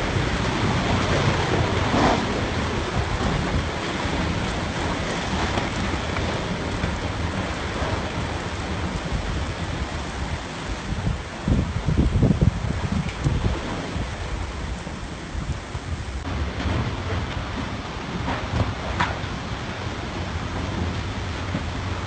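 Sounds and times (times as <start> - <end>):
heavy rain: 0.0 - 22.0
storm wind: 0.0 - 22.0.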